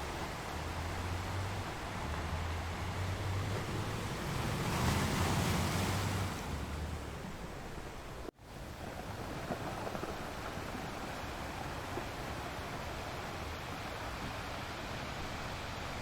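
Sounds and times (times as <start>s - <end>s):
ocean surf on shore: 0.0s - 16.0s
wind rumble on microphone: 0.0s - 16.0s.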